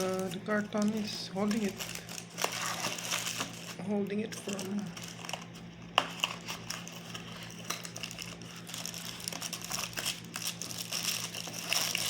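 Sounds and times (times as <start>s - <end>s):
cardboard packaging rustling: 0.0s - 12.0s
faint steady hum: 0.0s - 12.0s.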